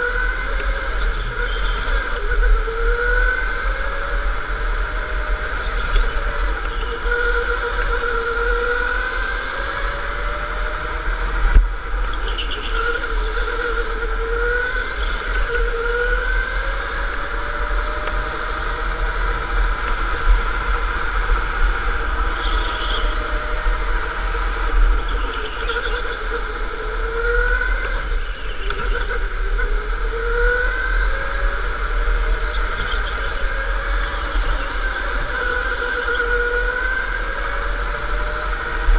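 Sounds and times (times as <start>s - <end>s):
electric go-kart motor whining: 0.0s - 38.9s.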